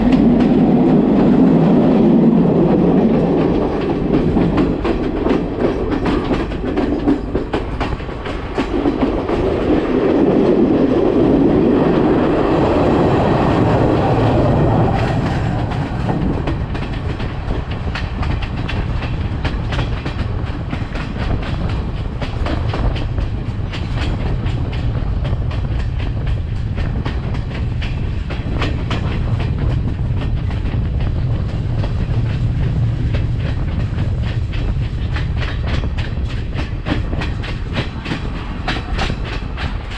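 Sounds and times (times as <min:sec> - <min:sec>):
train running noise: 0:00.0 - 0:39.9
wheels clacking over rail joints: 0:00.0 - 0:39.9.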